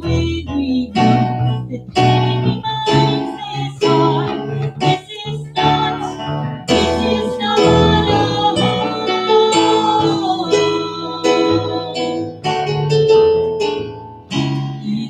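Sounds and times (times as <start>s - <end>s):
woman singing: 0.0s - 12.4s
acoustic guitar: 0.0s - 15.0s.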